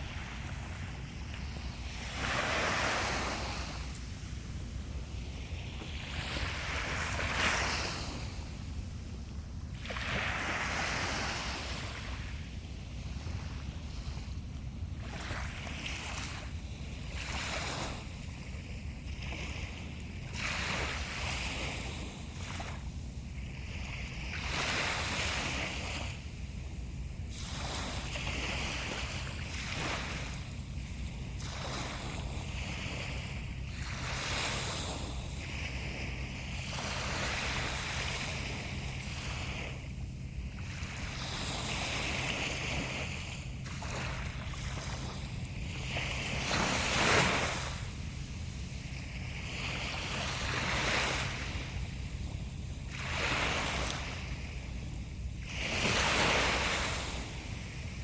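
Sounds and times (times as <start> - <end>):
sea waves washing in: 0.0 - 14.3, 23.6 - 58.0.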